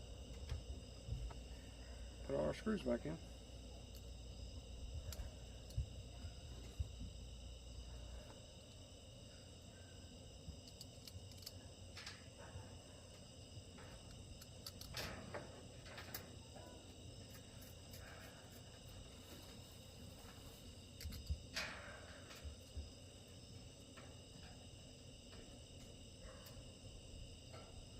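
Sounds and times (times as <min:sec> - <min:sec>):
insects chirping: 0:00.0 - 0:27.9.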